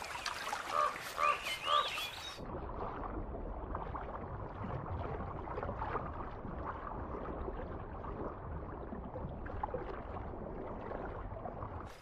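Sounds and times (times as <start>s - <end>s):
small water splashes: 0.0s - 12.0s
water trickling and gurgling: 0.0s - 12.0s.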